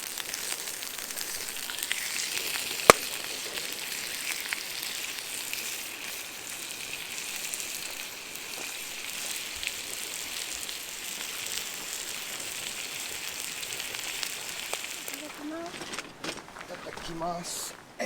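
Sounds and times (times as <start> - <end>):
food sizzling in a pan: 0.0 - 15.7
wood fire crackles: 0.0 - 18.0.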